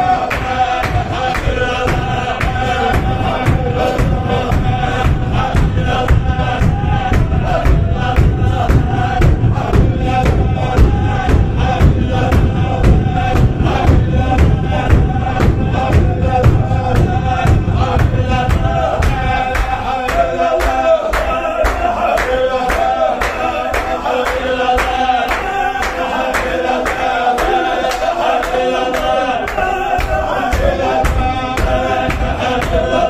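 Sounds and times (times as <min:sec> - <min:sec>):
men chanting in unison: 0:00.0 - 0:33.0
sharp rhythmic beats: 0:00.0 - 0:33.0.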